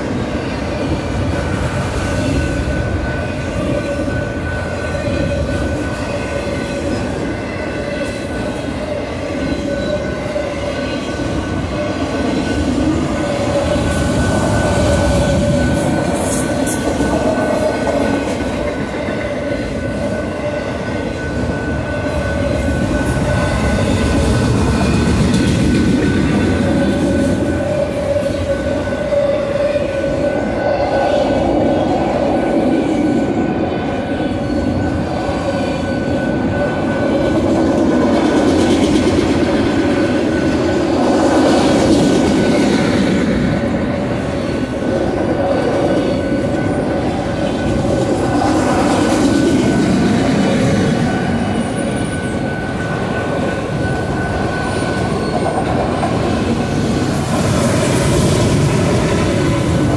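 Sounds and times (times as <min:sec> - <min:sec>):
freight cars rumbling on rails: 0:00.0 - 0:59.9.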